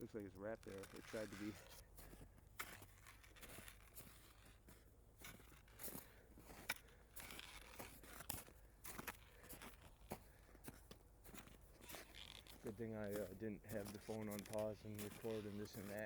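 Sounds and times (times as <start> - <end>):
footsteps crunching through snow: 0.0 - 16.0.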